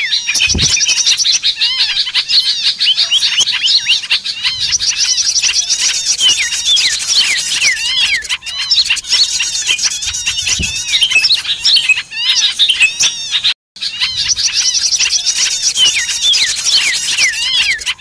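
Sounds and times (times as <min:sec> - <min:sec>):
flock of small birds chirping: 0:00.0 - 0:18.0.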